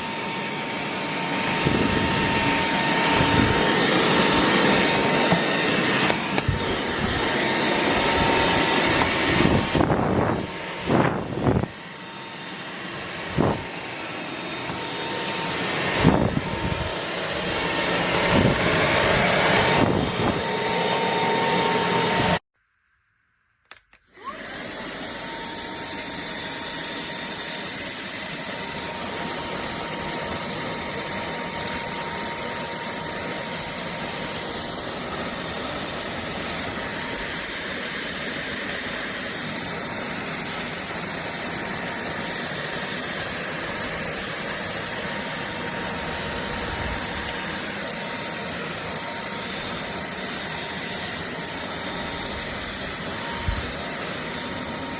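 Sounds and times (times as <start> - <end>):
handheld vacuum cleaner running: 0.0 - 22.4, 24.0 - 54.9.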